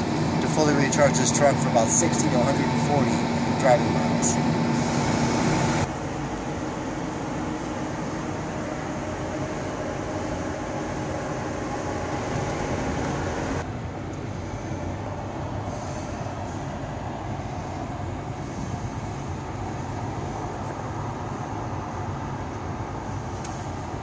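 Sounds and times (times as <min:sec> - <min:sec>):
electric auxiliaries humming: 0:00.0 - 0:24.0
pitched whine: 0:00.0 - 0:24.0.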